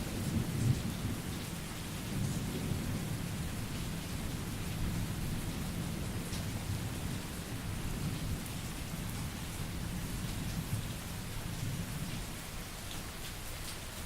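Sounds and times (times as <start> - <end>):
rumble of thunder: 0.0 - 12.3
heavy rain: 0.0 - 14.0.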